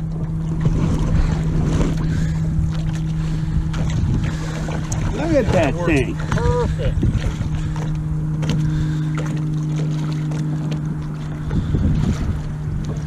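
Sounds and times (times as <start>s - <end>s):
wind on microphone: 0.0s - 8.9s, 10.9s - 13.0s
low hum: 0.0s - 13.0s.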